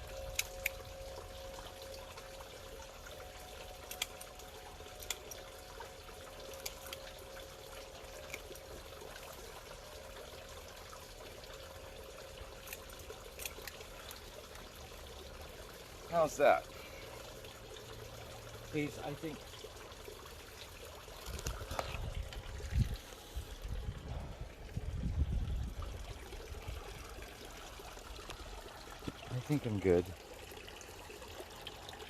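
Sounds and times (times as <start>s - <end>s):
faint steady hum: 0.0s - 32.0s
pond water bubbling and trickling: 0.0s - 32.0s.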